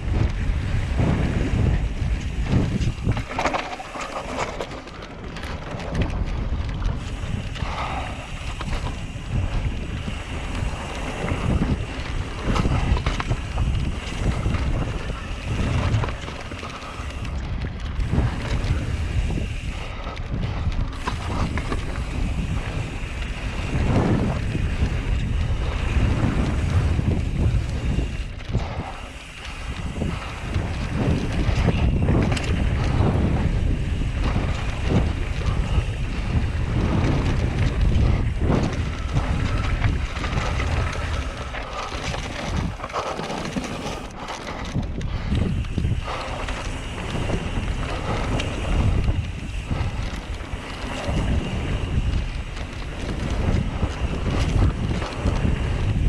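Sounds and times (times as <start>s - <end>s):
bike tyres rolling on dirt: 0.0s - 56.0s
wind rushing over microphone: 0.0s - 56.0s.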